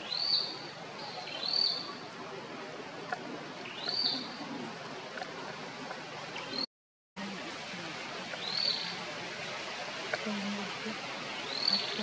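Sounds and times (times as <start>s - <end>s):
forest ambience hiss: 0.0s - 6.6s, 7.2s - 12.0s.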